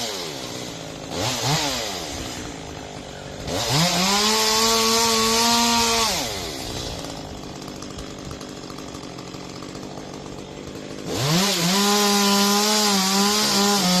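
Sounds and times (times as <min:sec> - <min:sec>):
chainsaw engine revving and idling: 0:00.0 - 0:14.0.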